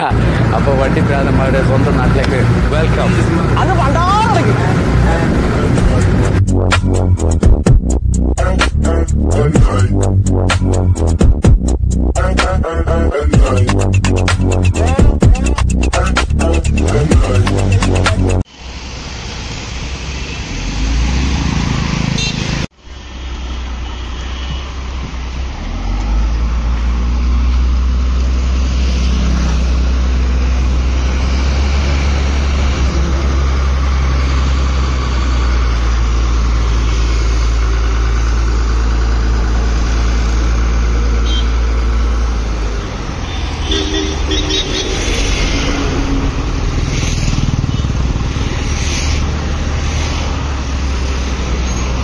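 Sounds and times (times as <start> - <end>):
diesel engine deep rumble: 0.0 - 52.0
roadside vehicle noise: 0.0 - 52.0.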